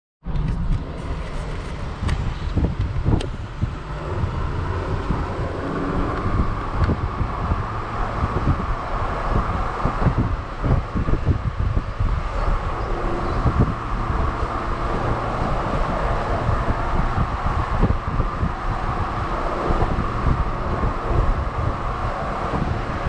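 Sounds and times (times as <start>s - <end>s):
moving vehicle noise: 0.2s - 23.0s
wind buffeting microphone: 0.2s - 23.0s.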